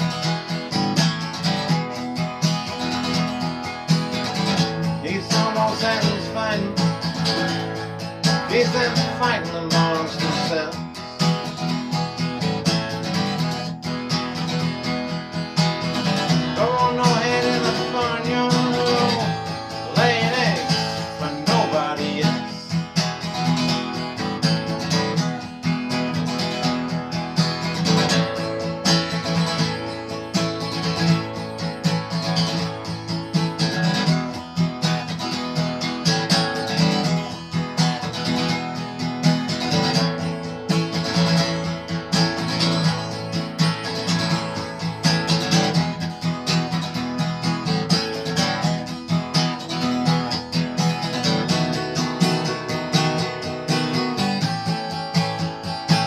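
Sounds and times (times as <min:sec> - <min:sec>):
acoustic guitar strumming blues: 0:00.0 - 0:56.0.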